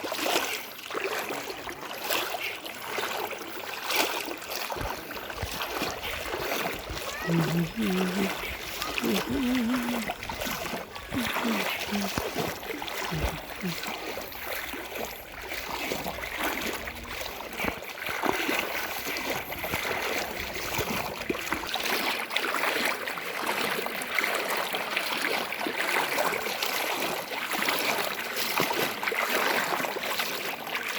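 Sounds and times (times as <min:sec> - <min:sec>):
floodwater rushing and splashing: 0:00.0 - 0:30.9.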